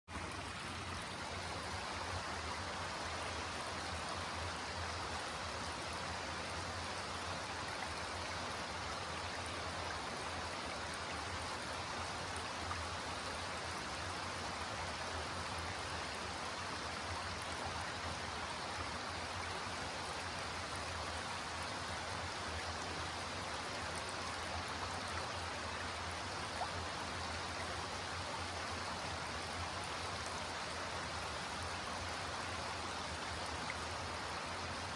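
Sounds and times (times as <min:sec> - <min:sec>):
creek flowing over rocks: 0:00.1 - 0:34.9.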